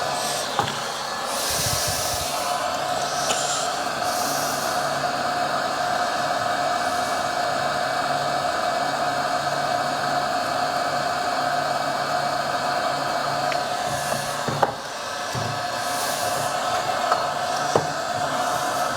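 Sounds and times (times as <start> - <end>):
hot air blower: 0.0 - 18.9.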